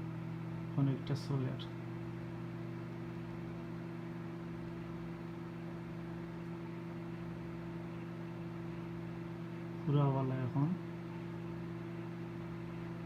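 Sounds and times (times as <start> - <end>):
microwave oven hum: 0.0 - 13.0.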